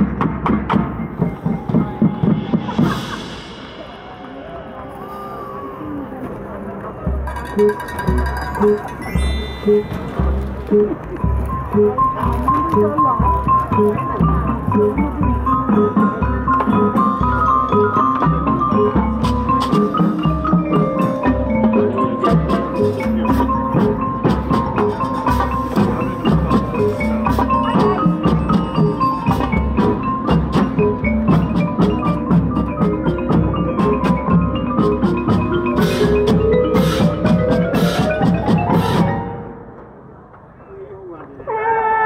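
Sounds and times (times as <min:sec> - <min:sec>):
marching drumline playing: 0:00.0 - 0:04.4, 0:07.0 - 0:39.6
mallet percussion notes: 0:00.0 - 0:39.8.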